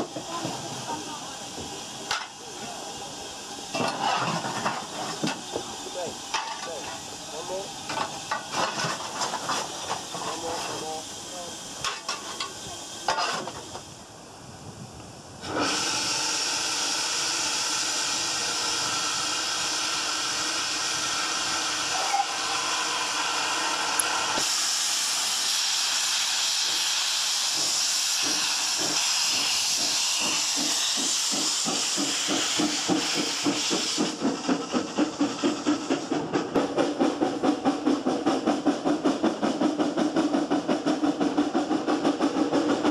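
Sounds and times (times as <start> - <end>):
steam engine exhaust beats: 0.0 - 42.9
steam hissing: 0.0 - 42.9.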